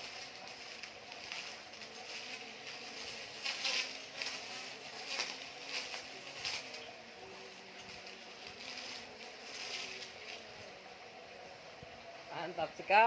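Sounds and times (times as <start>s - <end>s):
grass cutting swishes: 0.0s - 11.3s
electric motor whirring: 0.0s - 11.4s.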